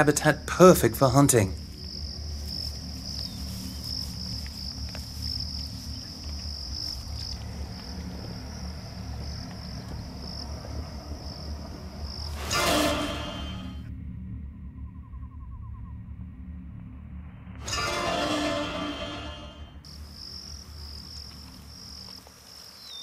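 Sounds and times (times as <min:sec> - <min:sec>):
insects trilling: 0:00.0 - 0:13.8, 0:17.6 - 0:23.0.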